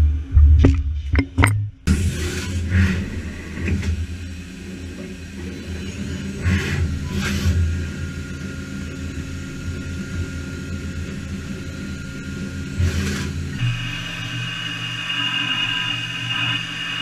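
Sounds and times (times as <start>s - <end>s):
machine low mechanical hum: 0.0s - 17.0s
machine high whine: 1.9s - 17.0s.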